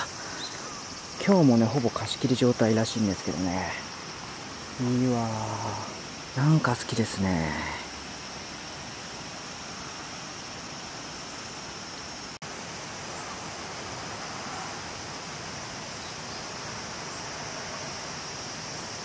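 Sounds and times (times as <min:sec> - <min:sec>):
high-pitched insect drone: 0:00.0 - 0:19.0
running river water: 0:00.0 - 0:19.0.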